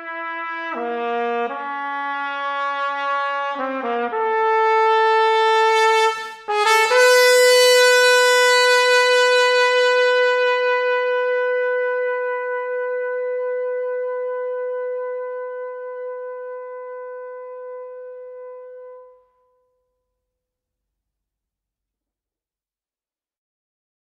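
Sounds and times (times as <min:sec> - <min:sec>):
trumpet holding long note: 0:00.0 - 0:19.6.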